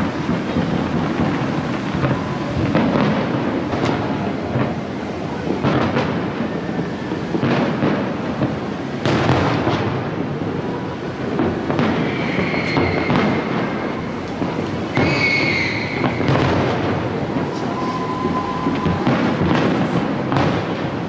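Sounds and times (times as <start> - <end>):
fireworks rumble of booms: 0.0 - 21.0
fireworks sharp bangs: 0.0 - 21.0.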